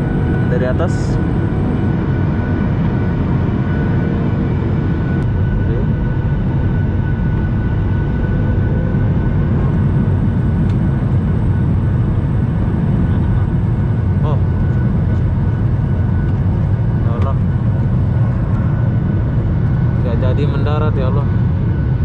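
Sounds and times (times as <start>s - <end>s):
airliner engines droning in cabin: 0.0s - 22.0s.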